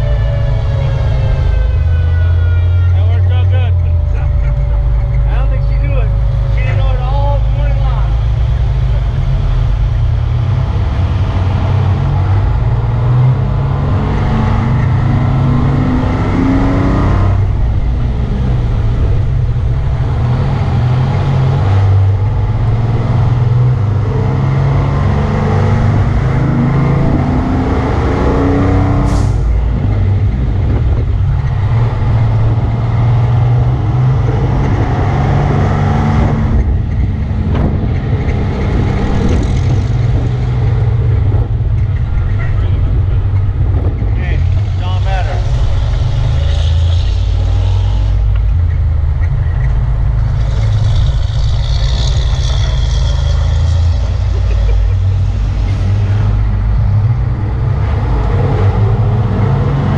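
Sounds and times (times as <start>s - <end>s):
fire truck engine under load: 0.0s - 59.9s.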